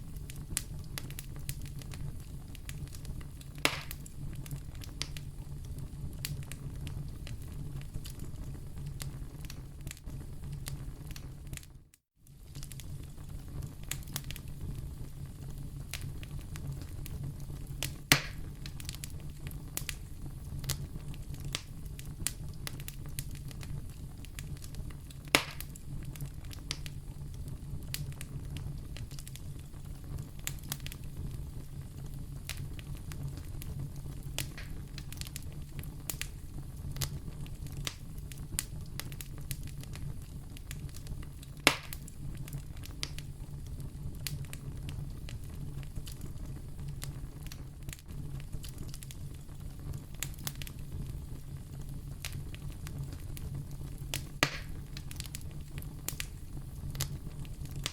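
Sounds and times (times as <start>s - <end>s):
sharp fire pops: 0.0s - 11.7s, 12.3s - 57.9s
fire crackling: 0.0s - 57.9s
low fire rumble: 0.0s - 57.9s.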